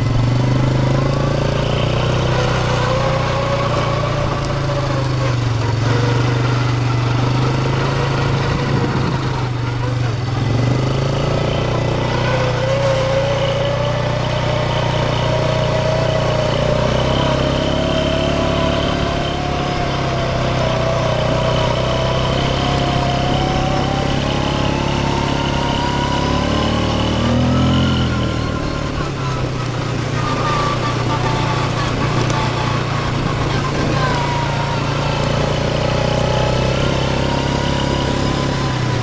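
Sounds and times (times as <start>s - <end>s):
engine whine rising in pitch: 0.0s - 39.0s
vehicle engine low rumble: 0.0s - 39.0s.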